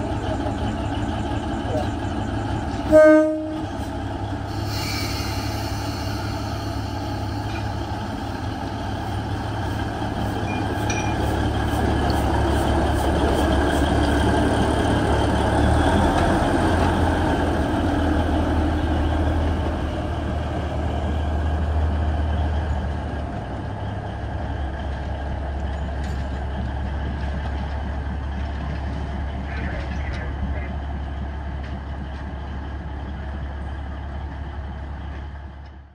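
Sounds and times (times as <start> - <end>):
diesel locomotive engine drone: 0.0 - 35.9.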